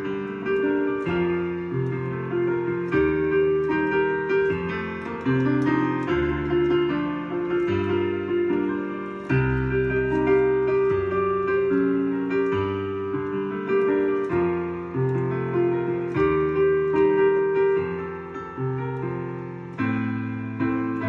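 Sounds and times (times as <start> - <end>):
digital piano playing: 0.0 - 21.0.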